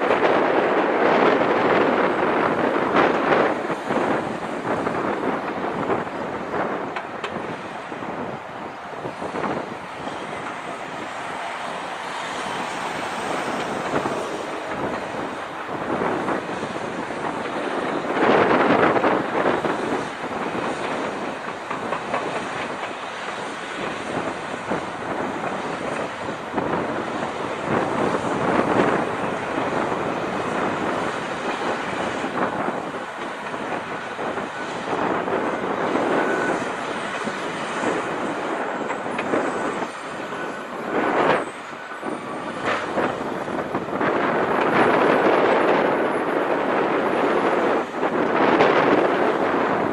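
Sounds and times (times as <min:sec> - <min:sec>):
crawler bulldozer: 0:00.0 - 0:49.9
excavator diesel engine under load: 0:00.0 - 0:49.9.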